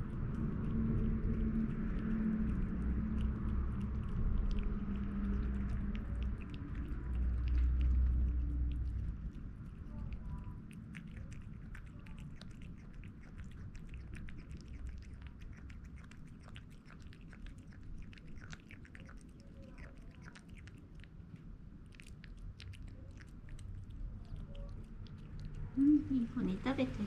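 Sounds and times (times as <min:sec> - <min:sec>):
kitten chewing and lapping: 0:00.0 - 0:27.0
steady low rumble: 0:00.0 - 0:27.0.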